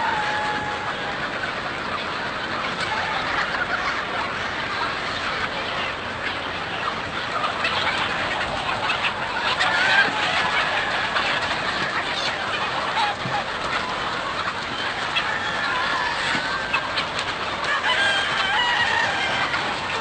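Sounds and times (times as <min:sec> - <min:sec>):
flock of chickens clucking: 0:00.0 - 0:20.0.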